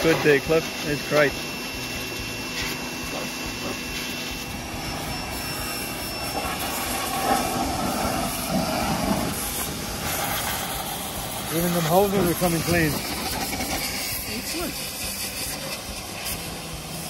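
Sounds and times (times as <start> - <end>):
pressure washer spraying: 0.0 - 17.0.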